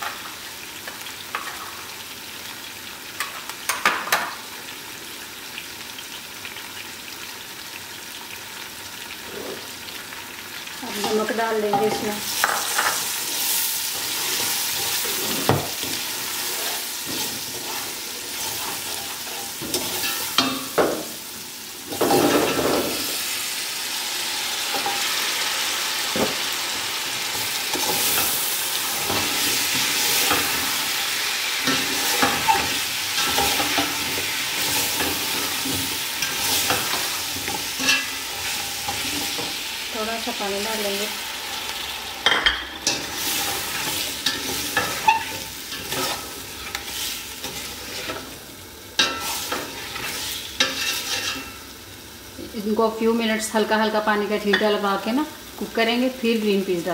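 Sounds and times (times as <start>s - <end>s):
vegetables sizzling in oil: 0.0s - 56.9s.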